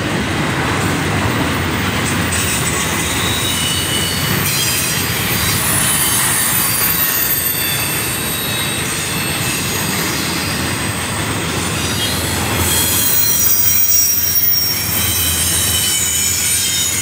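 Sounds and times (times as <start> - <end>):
train wheels rumbling on rails: 0.0 - 17.0
high-pitched wheel squeal: 3.0 - 17.0.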